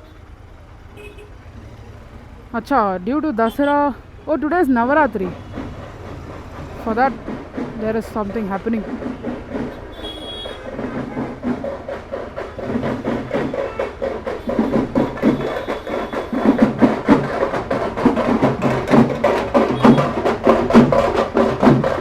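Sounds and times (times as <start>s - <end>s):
drums beaten rapidly: 1.0s - 22.0s.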